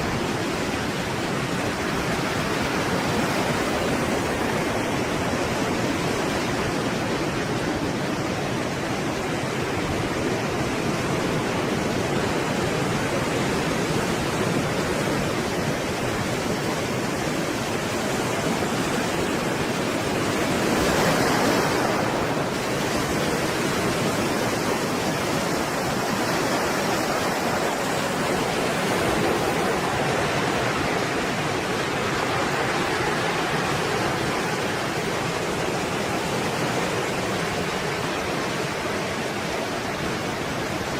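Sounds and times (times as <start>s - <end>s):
wave breaking: 0.0s - 40.9s
waves washing: 0.0s - 40.9s.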